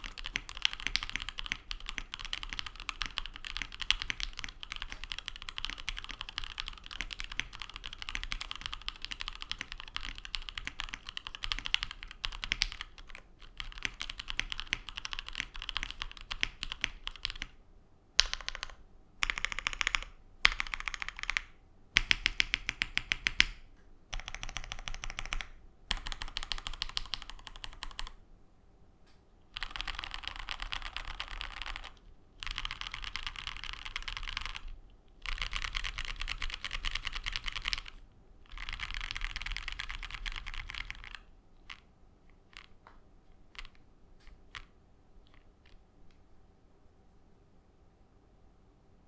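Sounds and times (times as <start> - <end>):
mechanical keyboard typing: 0.0 - 17.6, 18.2 - 28.2, 29.5 - 41.9, 42.5 - 45.8.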